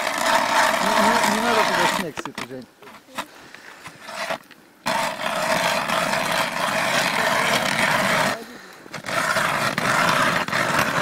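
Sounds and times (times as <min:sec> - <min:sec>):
ice auger grinding through ice: 0:00.0 - 0:11.0.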